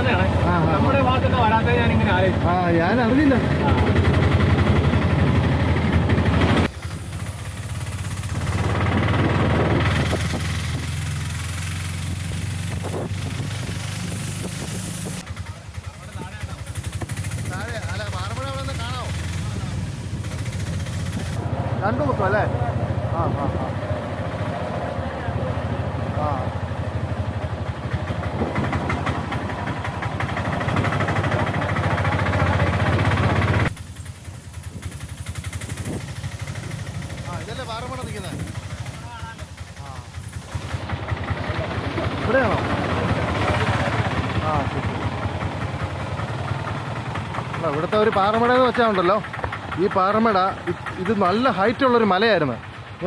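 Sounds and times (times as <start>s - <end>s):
vehicle engine throbbing: 0.0s - 53.0s.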